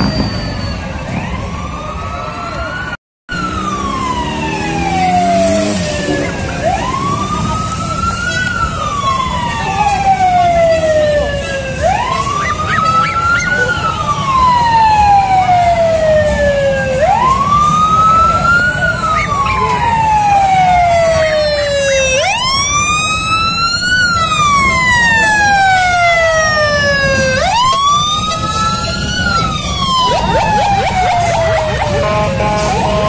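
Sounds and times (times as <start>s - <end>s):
siren wailing: 0.0s - 33.0s.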